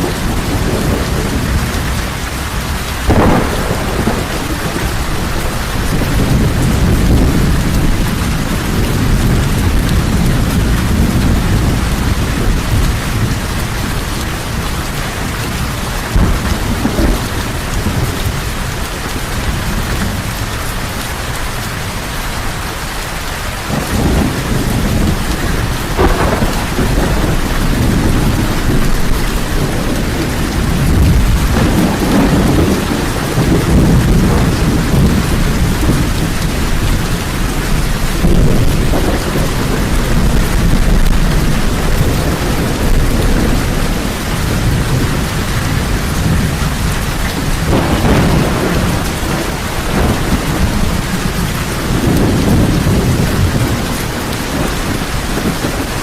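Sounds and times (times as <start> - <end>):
deep rolling thunder: 0.0 - 22.6, 23.6 - 56.0
heavy rain: 0.0 - 56.0.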